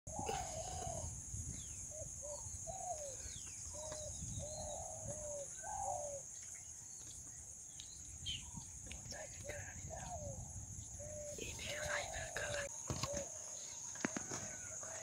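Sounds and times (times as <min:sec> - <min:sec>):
wild bird cooing: 0:00.1 - 0:06.7, 0:08.3 - 0:15.0.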